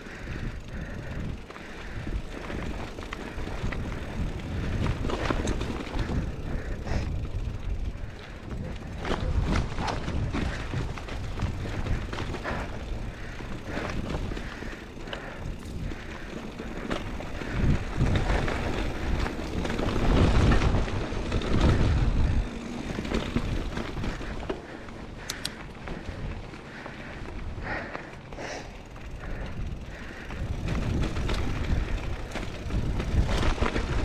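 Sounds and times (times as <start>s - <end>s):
bike clicks and rattles: 0.0s - 34.0s
bike tyres rolling on dirt: 0.0s - 34.0s
wind rumbling on microphone: 0.0s - 34.0s.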